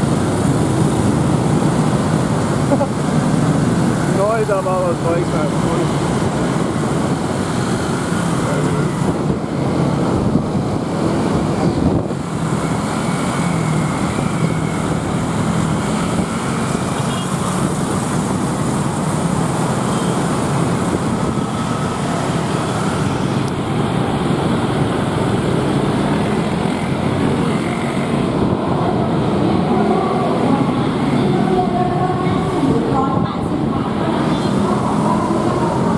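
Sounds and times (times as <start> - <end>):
motorbike engines in traffic: 0.0 - 35.9
road noise from moving traffic: 0.0 - 35.9.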